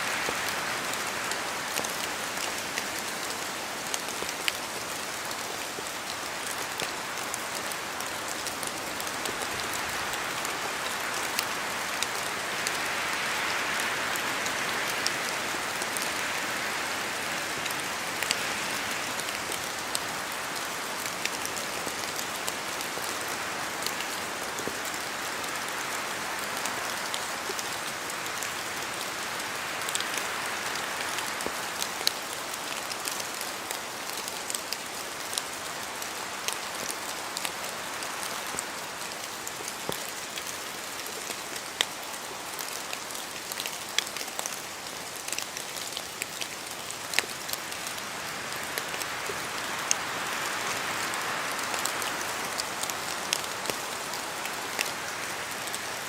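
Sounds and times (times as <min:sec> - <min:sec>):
steady rain in forest: 0:00.0 - 0:56.0.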